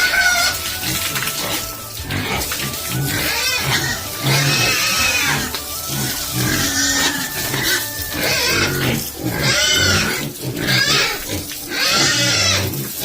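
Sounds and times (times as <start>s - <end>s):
pigs squealing: 0.0s - 13.0s.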